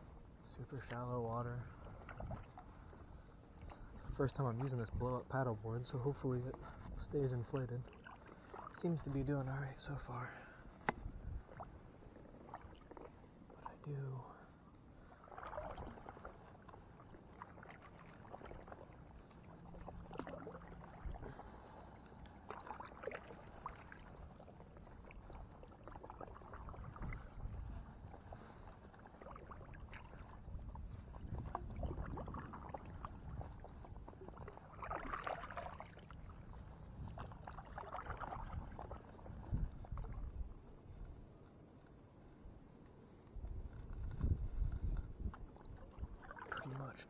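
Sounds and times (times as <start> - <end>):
paddle swishing through water: 0.0 - 47.0.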